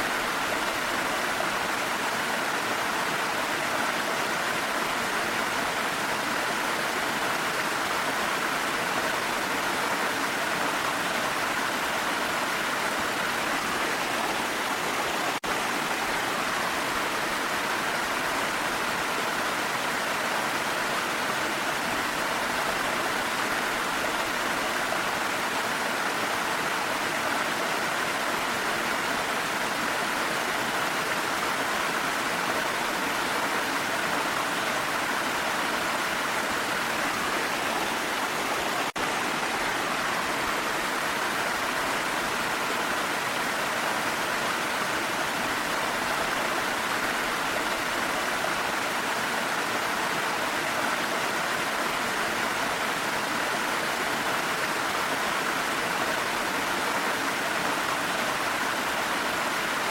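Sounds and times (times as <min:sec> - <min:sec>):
rain: 0:00.0 - 0:59.9
waterfall rushing: 0:00.0 - 0:59.9.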